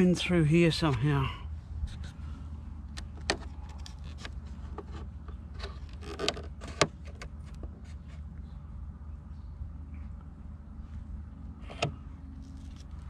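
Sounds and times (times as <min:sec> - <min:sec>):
steady low rumble: 0:00.0 - 0:06.0, 0:07.2 - 0:13.0.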